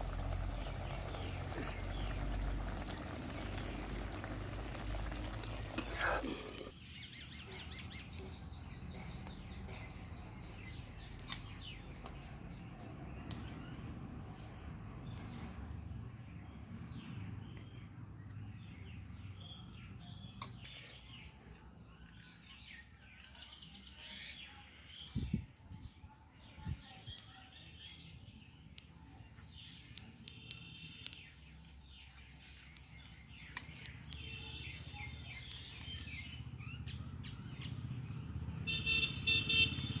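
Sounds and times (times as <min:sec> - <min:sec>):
birds chirping: 0:00.0 - 0:25.5, 0:26.3 - 0:40.0.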